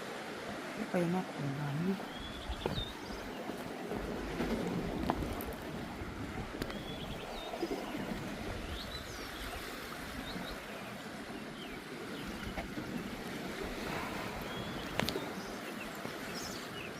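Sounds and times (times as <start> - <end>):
sea waves on rocky shore: 0.0 - 16.9.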